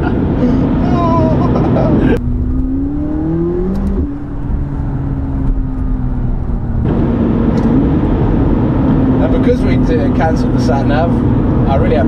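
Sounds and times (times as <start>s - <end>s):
car engine revving in cabin: 0.0s - 12.0s
road rumble: 0.0s - 12.0s.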